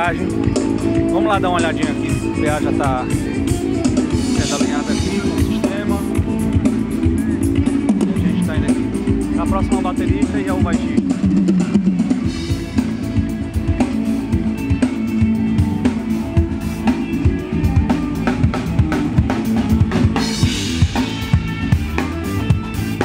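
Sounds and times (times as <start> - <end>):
bass line: 0.0 - 23.0
drum kit groove: 0.0 - 23.0.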